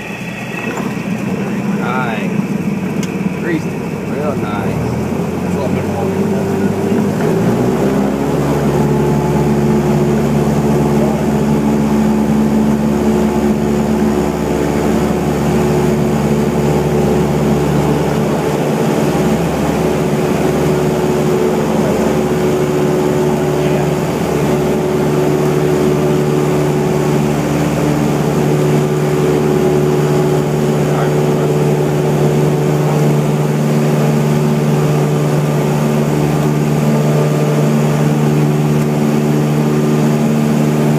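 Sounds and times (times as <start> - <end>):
light airplane engine and propeller: 0.0 - 40.9.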